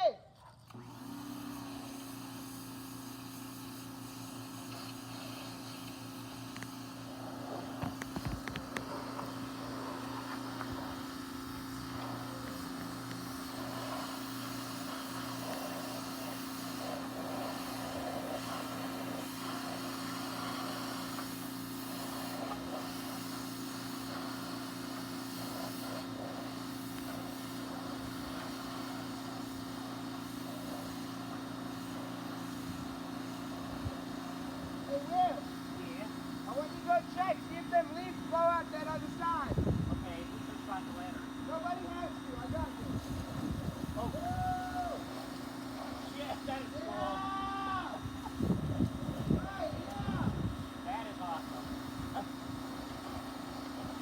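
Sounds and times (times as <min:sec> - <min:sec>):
pressure washer engine: 0:00.7 - 0:54.0
high-pressure water spray hiss: 0:00.8 - 0:54.0.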